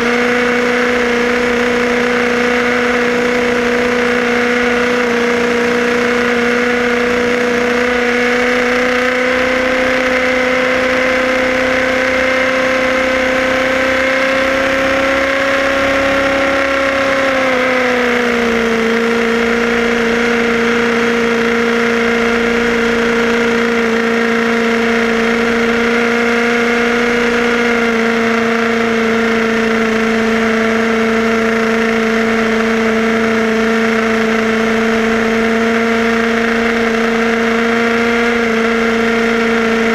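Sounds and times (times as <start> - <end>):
high-revving two-stroke engine: 0.0 - 39.9.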